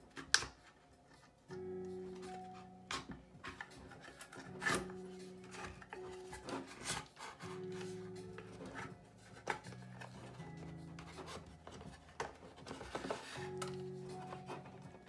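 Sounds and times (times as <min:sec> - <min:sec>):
background music with held notes: 0:00.0 - 0:15.0
parts scraping against metal case: 0:02.2 - 0:15.0.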